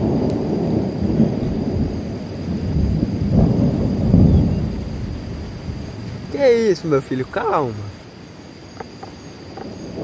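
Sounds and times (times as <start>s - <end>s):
thunder rumbling: 0.0s - 10.0s.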